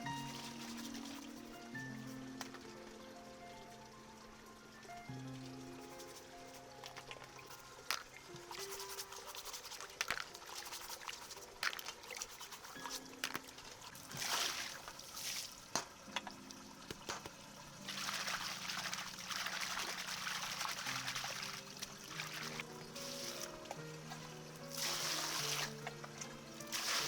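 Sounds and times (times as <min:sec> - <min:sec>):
water pouring: 0:00.0 - 0:27.0.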